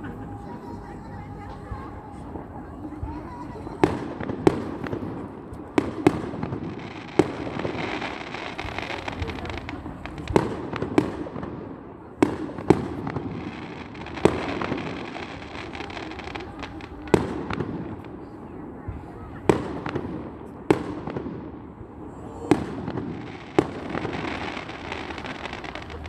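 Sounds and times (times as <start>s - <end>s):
fireworks bangs: 0.0s - 26.0s
noisy fireworks background: 0.0s - 26.0s.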